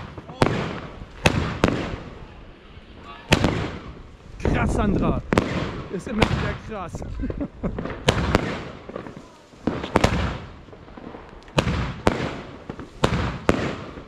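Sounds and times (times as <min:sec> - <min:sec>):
firework bangs: 0:00.0 - 0:14.0
firework crackle: 0:00.0 - 0:14.0.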